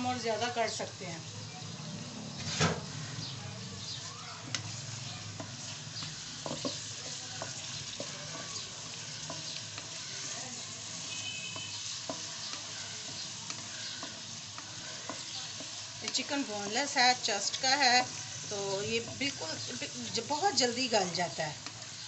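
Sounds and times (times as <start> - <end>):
chicken and onion sizzling in oil: 0.0 - 22.0
wooden spatula scraping a pan: 2.4 - 22.0.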